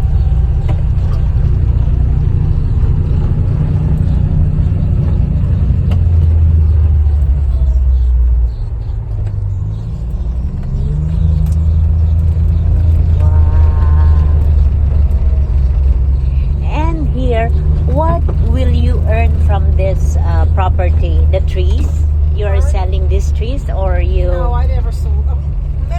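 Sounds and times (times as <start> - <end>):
motor vehicle engine rumble: 0.0 - 25.9.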